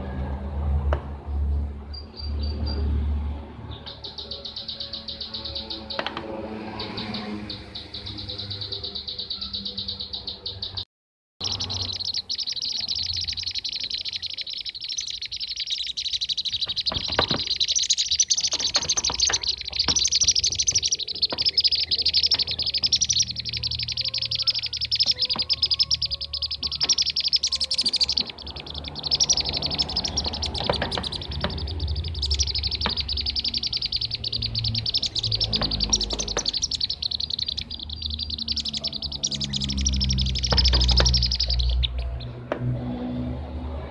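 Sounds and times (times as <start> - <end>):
birds chirping and trilling: 1.2 - 10.8, 11.4 - 43.9.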